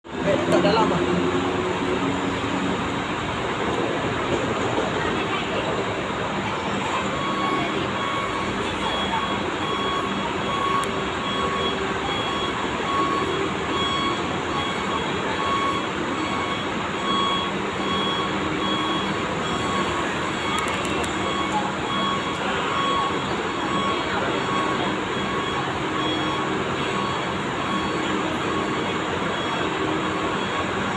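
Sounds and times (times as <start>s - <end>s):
bus terminal noise: 0.0s - 30.9s
diesel coach engine running: 0.0s - 30.9s
reversing alarm beeping: 0.1s - 30.9s.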